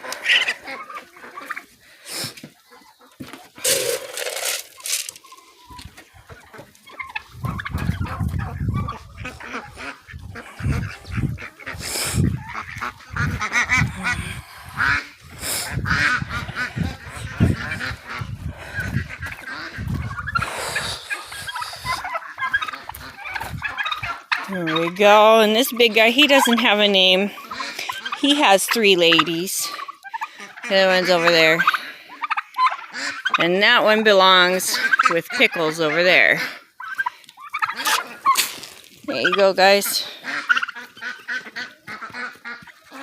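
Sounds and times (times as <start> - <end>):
waterfowl honking and calling: 0.0 - 43.0.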